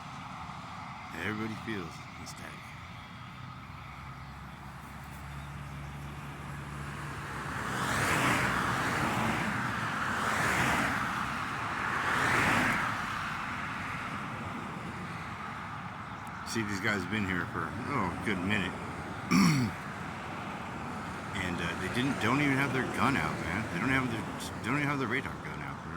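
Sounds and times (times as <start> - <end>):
cars passing: 0.0 - 25.9.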